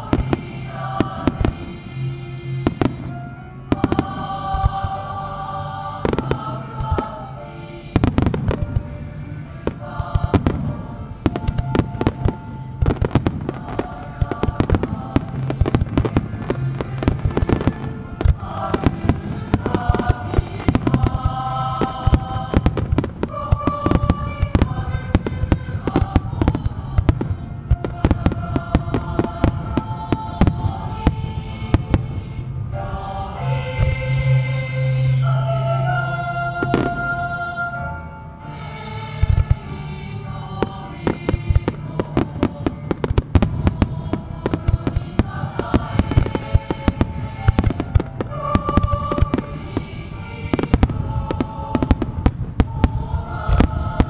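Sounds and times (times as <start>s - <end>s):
music with sustained chords: 0.0s - 54.0s.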